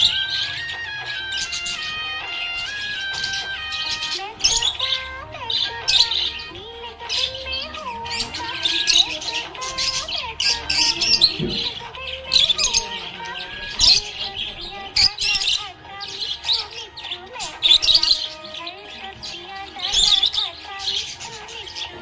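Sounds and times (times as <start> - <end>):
background music melody: 0.0 - 22.0
budgerigars chirping: 0.0 - 22.0.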